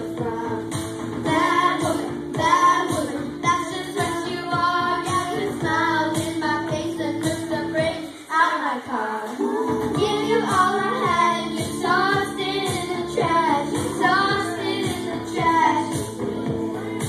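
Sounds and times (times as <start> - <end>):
backing track with steady beat: 0.0 - 8.3, 9.2 - 17.0
girls singing into microphones: 0.0 - 17.0.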